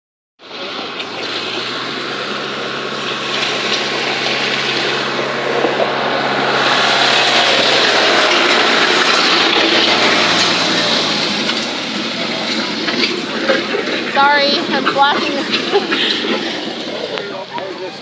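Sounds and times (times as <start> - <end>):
tractor engine running: 0.4 - 18.0.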